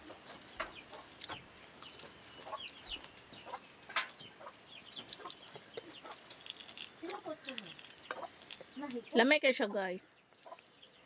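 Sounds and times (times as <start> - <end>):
chickens clucking: 0.0 - 9.1, 10.3 - 11.0
chicks peeping: 0.0 - 9.2, 10.2 - 11.0.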